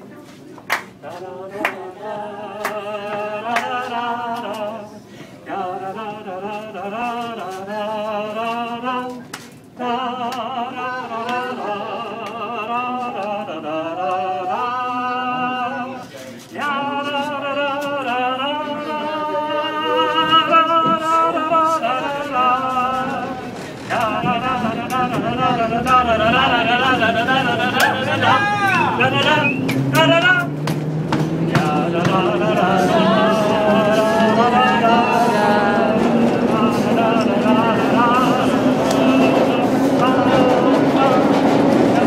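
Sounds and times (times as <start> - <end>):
man singing unaccompanied: 1.0 - 9.2, 9.8 - 30.6, 31.3 - 42.0.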